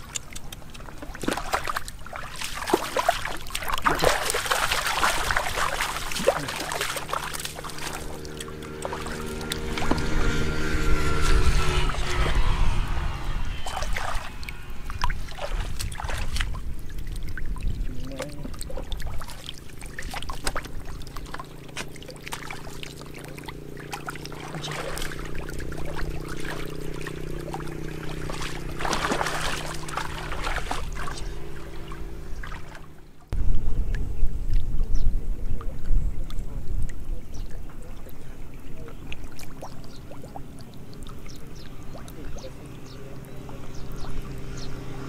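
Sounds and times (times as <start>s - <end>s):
fish splashing in shallow water: 0.0s - 45.0s
low hum: 0.0s - 45.0s.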